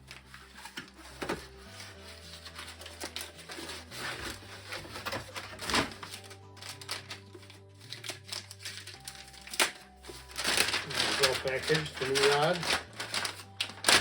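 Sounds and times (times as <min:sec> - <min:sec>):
background music with low notes: 0:00.0 - 0:14.0
package rustling and handling: 0:00.0 - 0:14.0.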